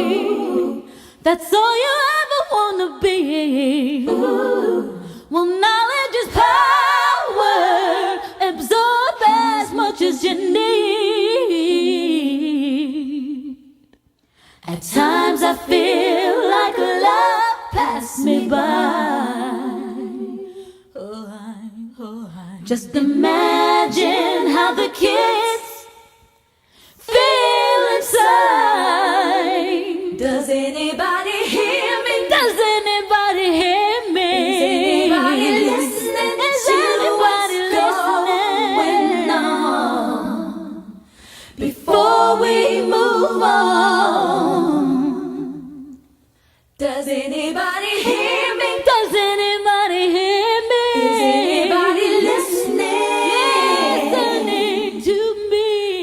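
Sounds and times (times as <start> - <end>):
female trio singing a cappella: 0.0 - 56.0.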